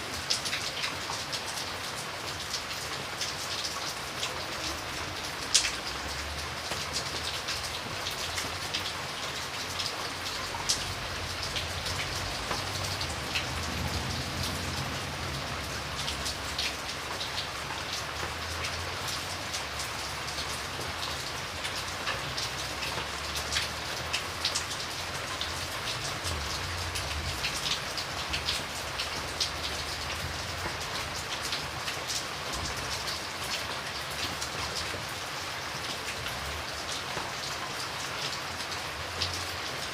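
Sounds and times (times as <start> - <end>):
rain drops pattering on hard surface: 0.0 - 39.9.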